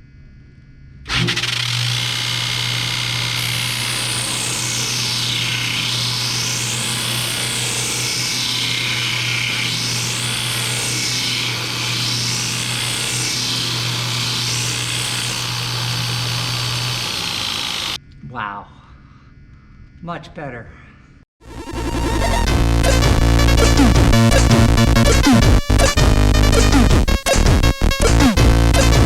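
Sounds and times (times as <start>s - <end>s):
sander motor humming: 1.1s - 18.0s, 21.5s - 29.0s.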